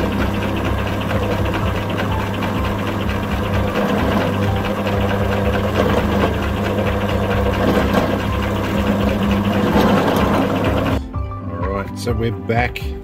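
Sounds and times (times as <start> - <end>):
drill press humming: 0.0 - 11.1.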